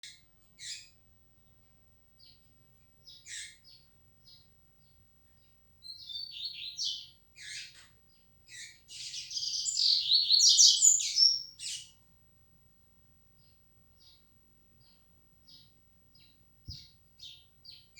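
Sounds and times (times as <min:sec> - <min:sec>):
bird singing: 0:00.0 - 0:12.0, 0:13.3 - 0:17.9.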